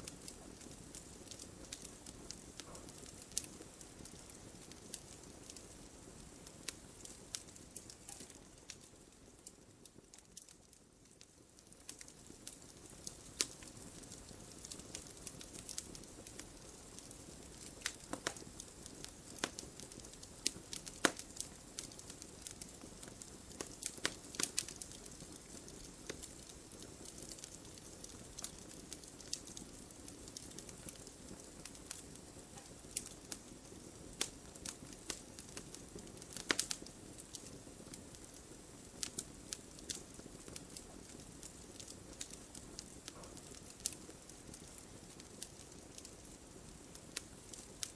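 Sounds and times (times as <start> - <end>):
burning logs crackling and popping: 0.0 - 47.9
wood fire hissing: 0.0 - 47.9.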